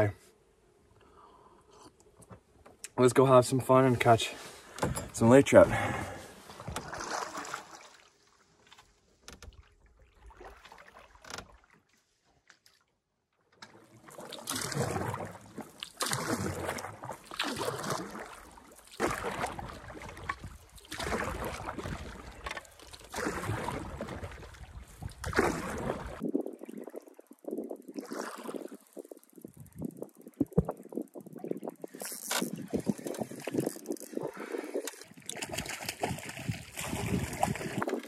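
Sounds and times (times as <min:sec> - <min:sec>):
paddle swishing through water: 0:04.0 - 0:13.0, 0:13.7 - 0:38.0.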